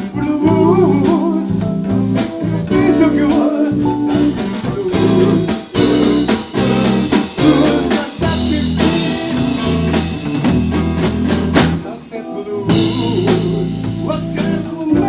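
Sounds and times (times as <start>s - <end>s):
bass line: 0.0s - 11.9s, 12.6s - 15.0s
blues guitar: 0.0s - 15.0s
drums: 0.0s - 15.0s.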